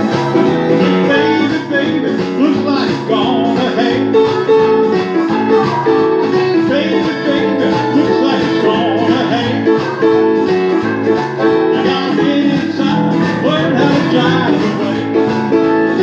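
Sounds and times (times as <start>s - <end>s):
blues electric guitar: 0.0s - 16.0s
blues harmonica: 0.0s - 16.0s
man singing: 0.0s - 16.0s.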